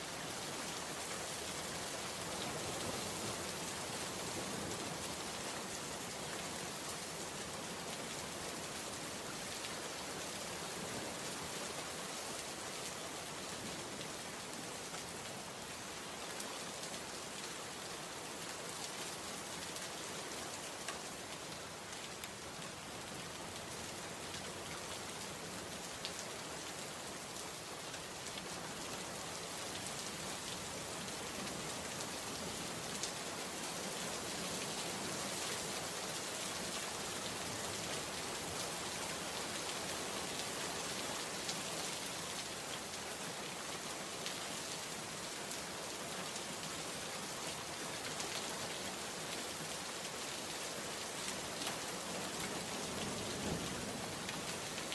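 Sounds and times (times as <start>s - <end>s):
steady rainfall: 0.0s - 54.9s.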